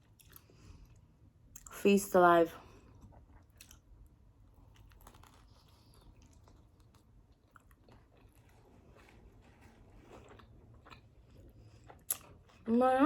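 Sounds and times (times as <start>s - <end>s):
chewing food: 0.0s - 1.8s, 2.6s - 12.8s.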